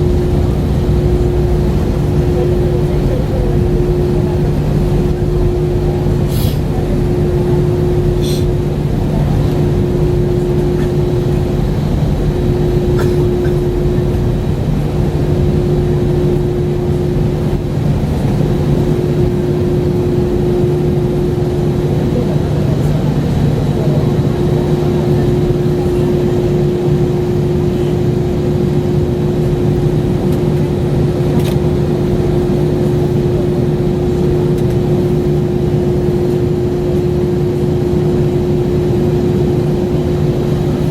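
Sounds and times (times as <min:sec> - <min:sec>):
aircraft cabin rumble: 0:00.0 - 0:40.9
steady cabin hum: 0:00.0 - 0:40.9.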